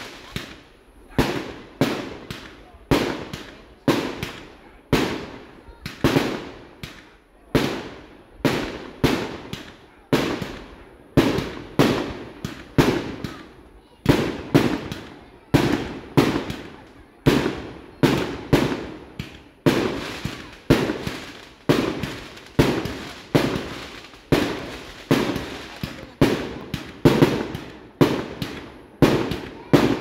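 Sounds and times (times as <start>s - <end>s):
fireworks bangs: 0.0s - 30.0s.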